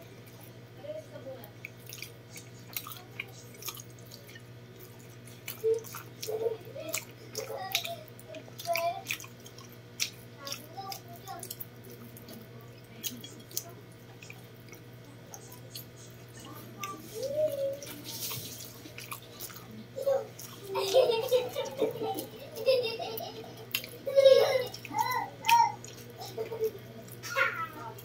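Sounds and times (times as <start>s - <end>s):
lip smacks and chewing: 1.5s - 24.1s, 24.7s - 27.3s.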